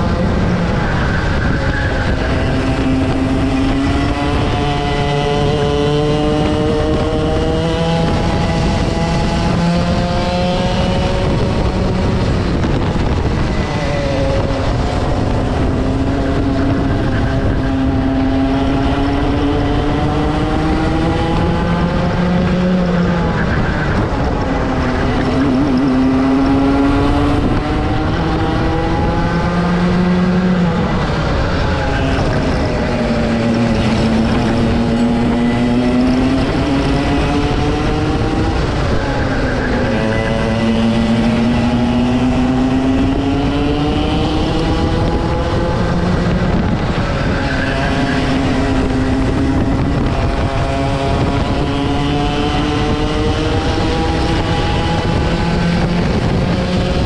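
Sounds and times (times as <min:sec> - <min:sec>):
kart engine at full throttle: 0:00.0 - 0:57.0.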